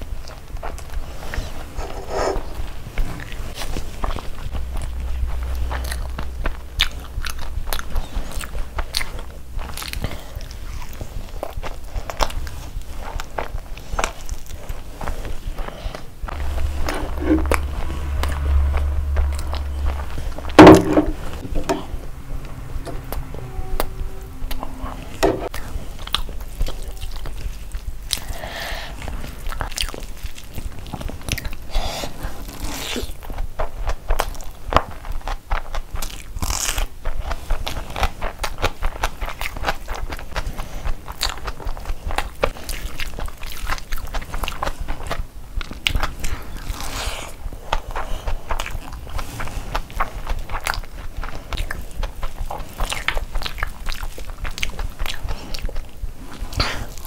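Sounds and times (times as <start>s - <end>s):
person chewing food: 0.0s - 23.9s, 24.5s - 57.0s.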